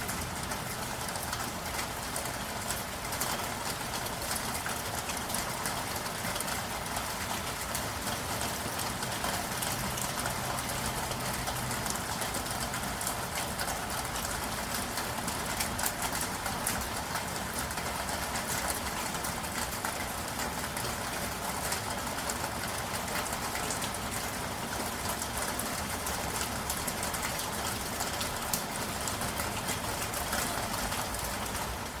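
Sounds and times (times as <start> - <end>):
city traffic rumble: 0.0 - 32.0
steady rain falling: 0.0 - 32.0.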